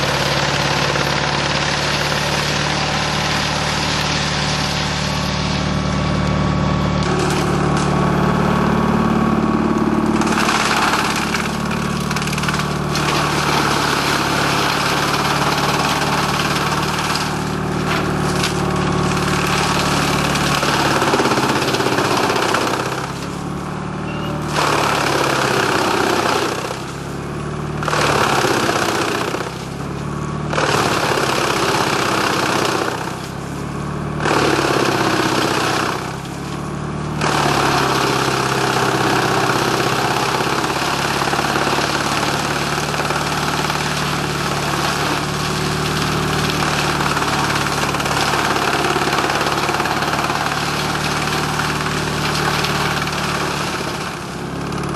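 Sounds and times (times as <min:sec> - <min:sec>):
engine humming: 0:00.0 - 0:54.9
wood chipper chipping brush: 0:00.0 - 0:54.9.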